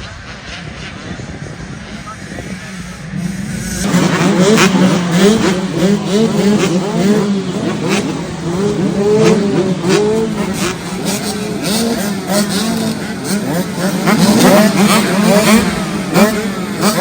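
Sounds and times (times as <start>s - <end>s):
dirt bikes revving: 0.0s - 17.0s.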